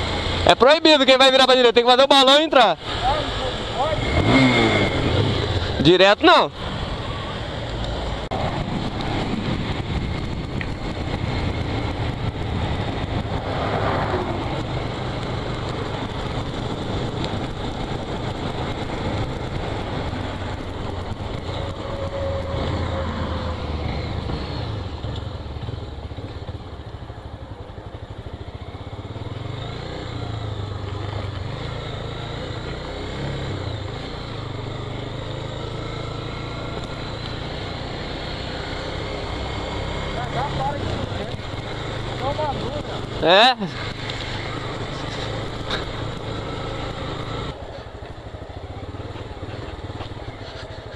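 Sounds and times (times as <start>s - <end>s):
motorcycle engine running: 0.0s - 50.9s
road and wind noise: 0.0s - 50.9s.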